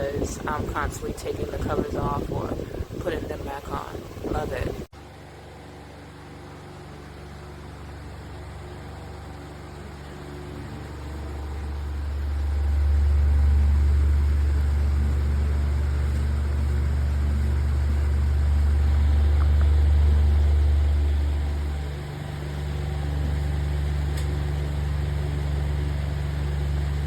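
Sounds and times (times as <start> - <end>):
fan running: 0.0 - 27.0.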